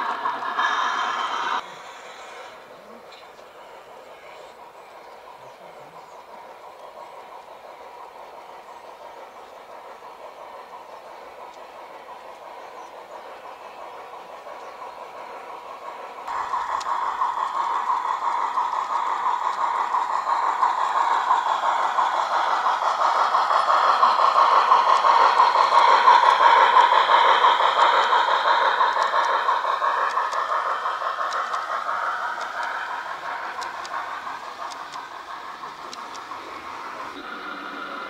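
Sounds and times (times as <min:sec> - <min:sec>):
model train running on track: 0:00.0 - 0:38.0.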